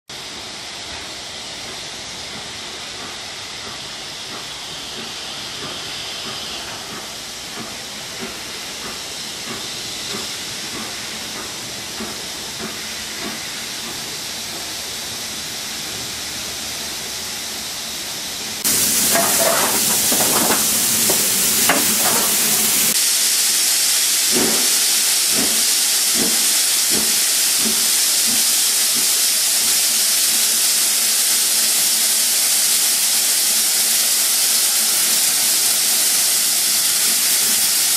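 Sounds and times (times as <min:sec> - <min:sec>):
steam locomotive hissing steam: 0:00.1 - 0:37.9.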